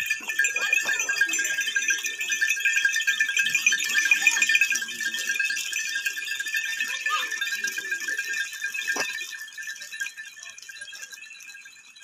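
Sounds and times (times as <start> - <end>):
goat bells jingling: 0.0 - 12.0.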